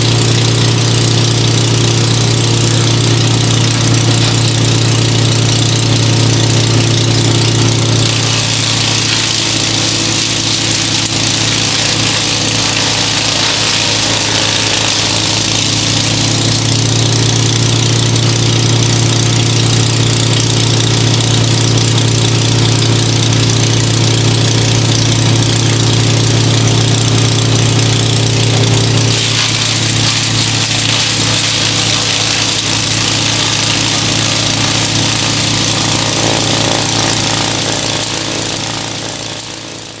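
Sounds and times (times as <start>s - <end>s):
wood chipper chipping branches: 0.0s - 40.0s.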